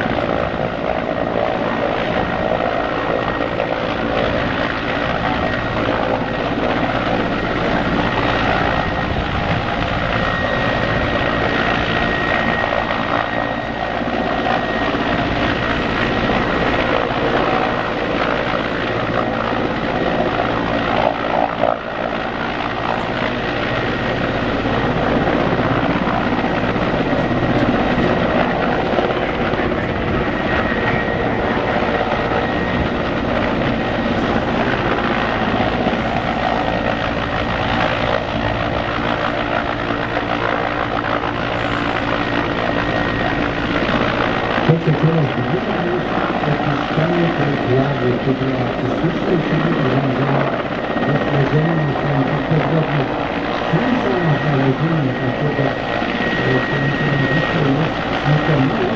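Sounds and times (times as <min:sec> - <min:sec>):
helicopter hovering: 0:00.0 - 0:58.9.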